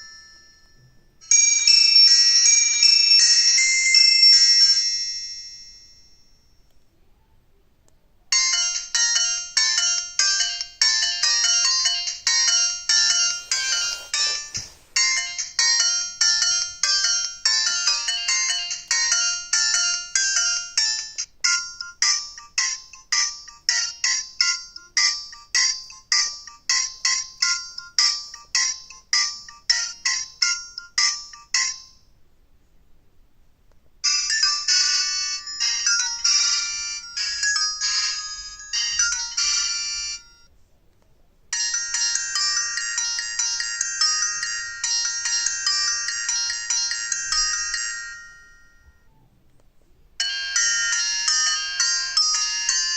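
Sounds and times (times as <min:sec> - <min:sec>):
polyphonic ringtone melody: 0:00.0 - 0:06.5, 0:08.3 - 0:32.0, 0:34.0 - 0:40.5, 0:41.5 - 0:49.2, 0:50.2 - 0:52.9.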